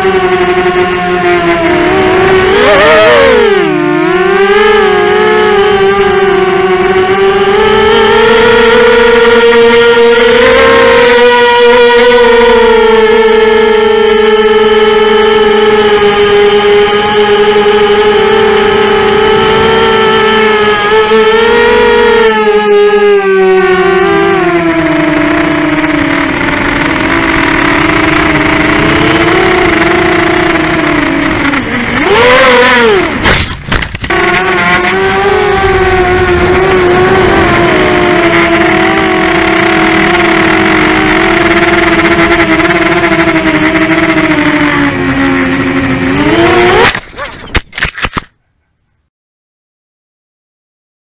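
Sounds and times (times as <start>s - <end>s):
quadcopter motors buzzing whine: 0.0s - 48.2s.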